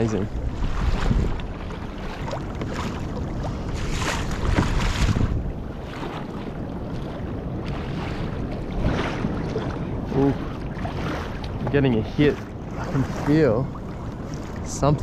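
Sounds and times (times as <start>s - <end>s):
water lapping against kayak hull: 0.0s - 15.0s
wind rumbling on microphone: 0.0s - 15.0s.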